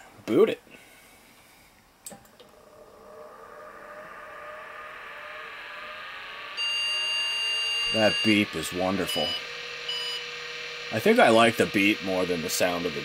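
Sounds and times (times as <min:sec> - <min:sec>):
hard drive spinning up whine: 0:02.4 - 0:13.0.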